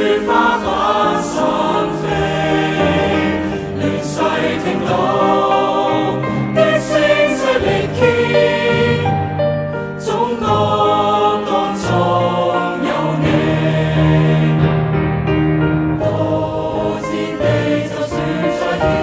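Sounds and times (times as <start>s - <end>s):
choir singing: 0.0s - 15.2s, 15.9s - 19.0s
instrumental backing: 0.0s - 19.0s.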